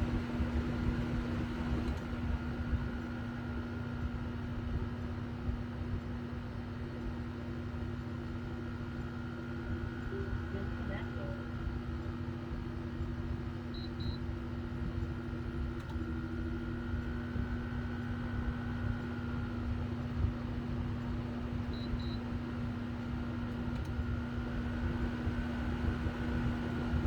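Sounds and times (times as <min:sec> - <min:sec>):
air conditioner running: 0:00.0 - 0:27.0.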